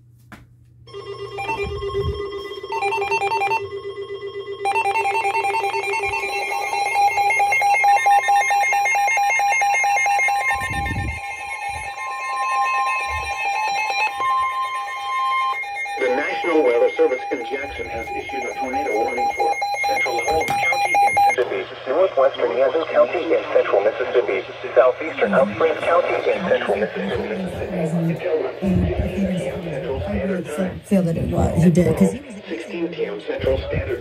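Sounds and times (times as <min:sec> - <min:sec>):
weather radio alarm beeping: 0:00.9 - 0:21.4, 0:25.0 - 0:32.8.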